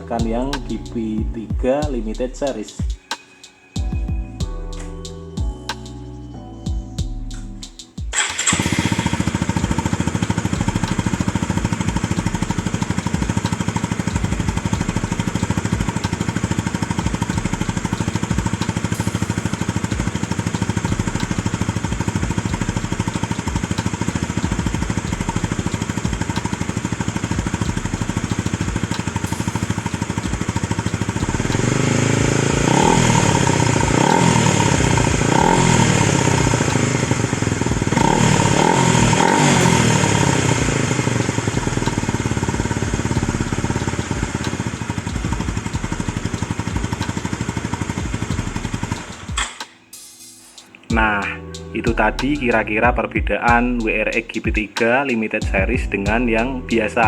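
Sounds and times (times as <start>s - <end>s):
motorcycle engine idling and revving: 0.0s - 6.0s, 6.7s - 49.8s, 50.9s - 57.0s.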